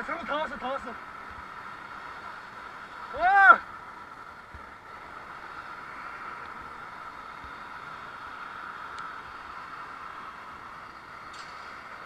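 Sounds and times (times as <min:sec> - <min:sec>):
expressway traffic hiss: 0:00.0 - 0:12.0.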